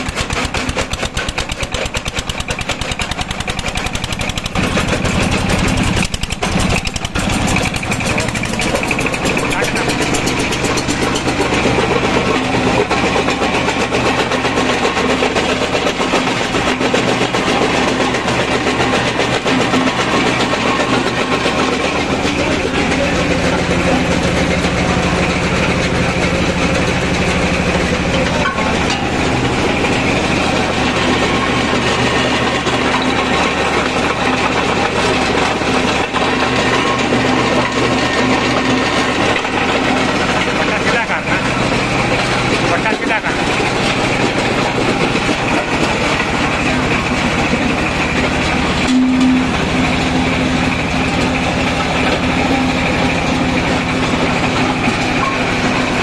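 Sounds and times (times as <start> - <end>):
jaw crusher crushing rocks: 0.0 - 56.0.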